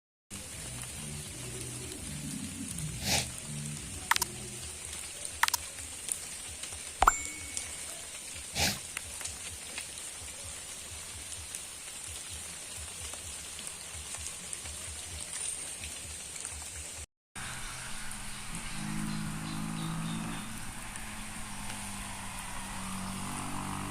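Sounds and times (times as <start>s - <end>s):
heavy rain falling: 0.3s - 23.9s.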